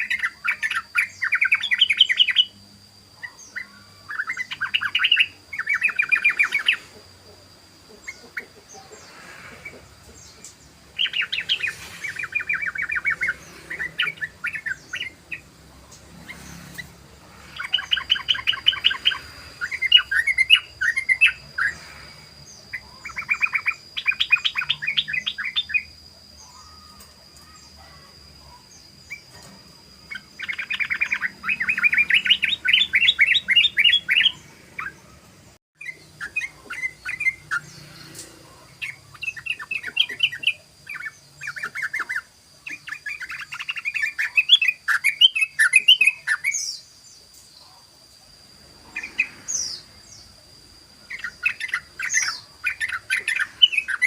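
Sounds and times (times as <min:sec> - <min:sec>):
bulbul singing chattering runs: 0:00.0 - 0:54.0.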